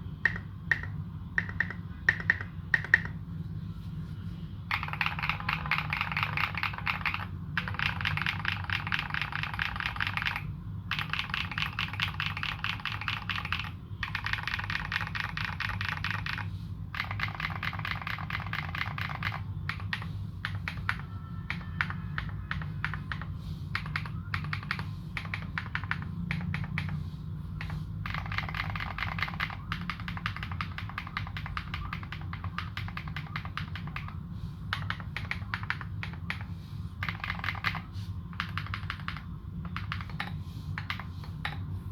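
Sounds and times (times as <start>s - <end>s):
mechanical keyboard typing: 0.2s - 3.2s, 4.7s - 27.0s, 27.6s - 41.7s.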